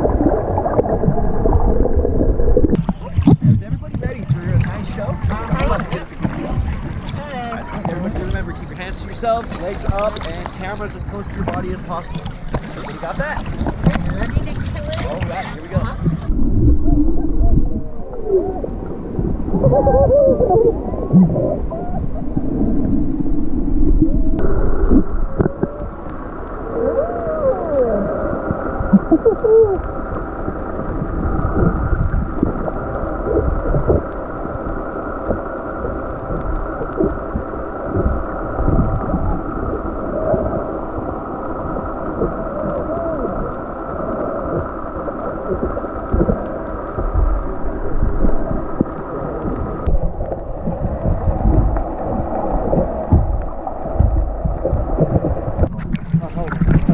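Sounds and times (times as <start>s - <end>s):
underwater rumble and bubbling: 0.0s - 56.9s.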